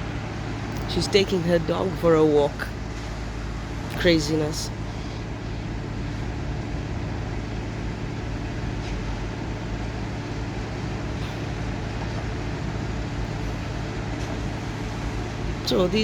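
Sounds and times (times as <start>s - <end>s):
water pumps humming: 0.0s - 16.0s.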